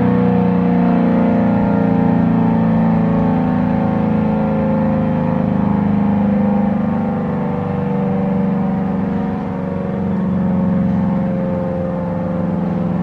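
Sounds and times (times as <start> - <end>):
distant sirens: 0.0 - 13.0
warning siren wavering tone: 0.0 - 13.0.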